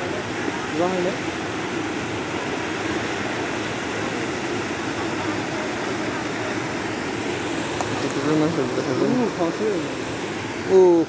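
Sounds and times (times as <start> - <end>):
river floodwater rushing: 0.0 - 11.0.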